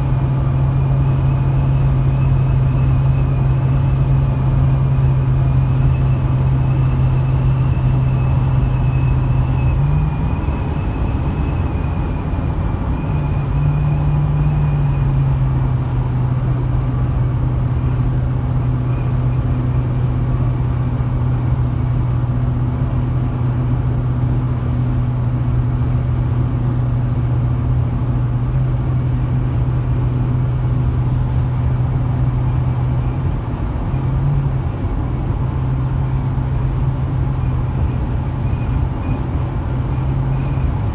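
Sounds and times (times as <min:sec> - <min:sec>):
road and tyre rumble: 0:00.0 - 0:40.9
truck engine running: 0:00.0 - 0:40.9.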